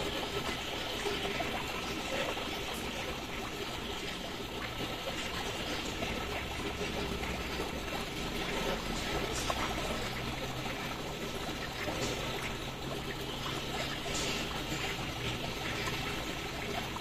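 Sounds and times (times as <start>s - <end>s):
faint water splashes: 0.0s - 17.0s
water trickling: 0.0s - 17.0s.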